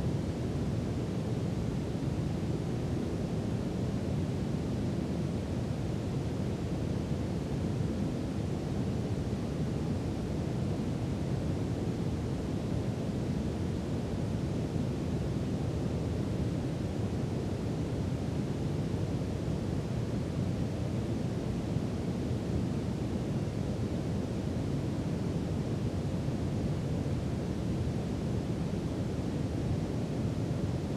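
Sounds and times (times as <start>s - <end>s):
brown noise hiss: 0.0s - 30.9s.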